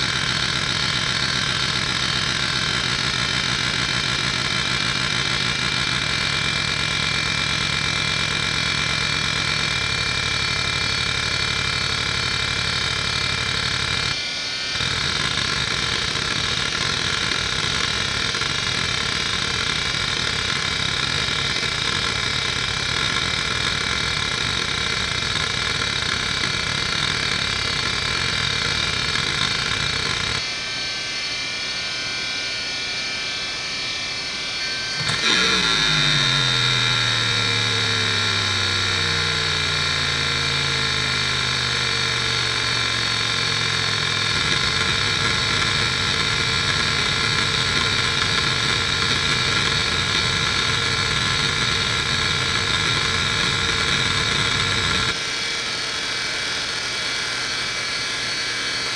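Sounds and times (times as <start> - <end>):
hard drive spindle whine: 0.0 - 32.4, 33.4 - 58.9.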